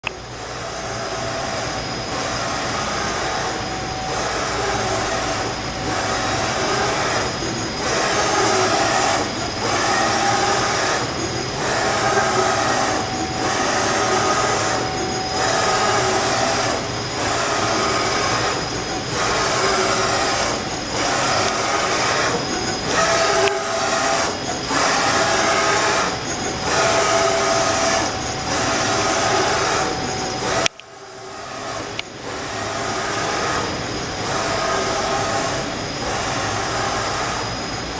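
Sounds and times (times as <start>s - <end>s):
lathe running with high whine: 0.0s - 37.9s.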